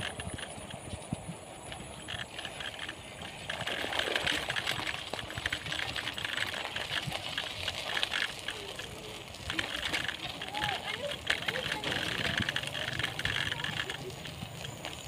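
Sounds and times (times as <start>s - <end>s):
bicycle rattling on gravel path: 0.0s - 15.0s.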